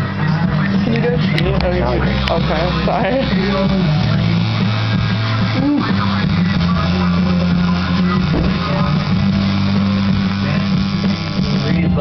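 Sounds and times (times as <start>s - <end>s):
guitar music: 0.0s - 12.0s
tattoo machine buzzing: 0.0s - 12.0s.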